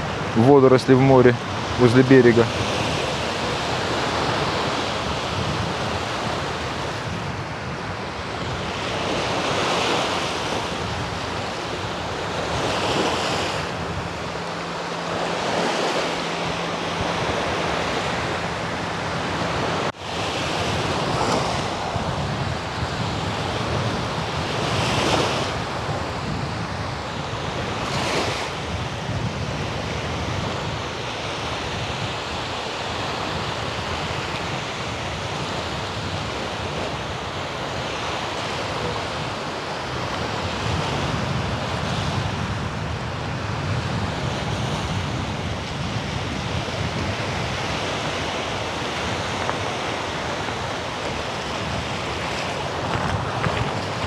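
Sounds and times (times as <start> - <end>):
small waves breaking on shore: 0.0 - 54.0
wind buffeting microphone: 0.0 - 54.0.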